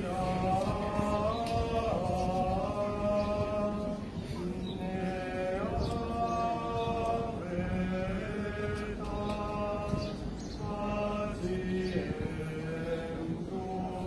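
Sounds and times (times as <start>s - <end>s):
unaccompanied chant singing: 0.0s - 14.0s.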